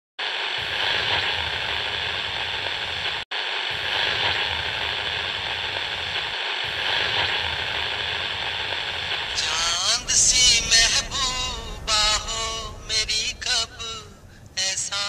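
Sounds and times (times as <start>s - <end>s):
hissing crackle of film static: 0.2s - 15.0s.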